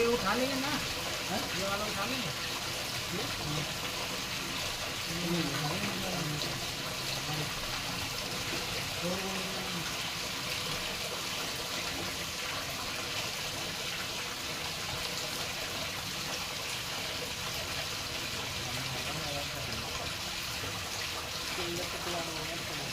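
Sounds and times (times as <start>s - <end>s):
water running: 0.0s - 22.9s.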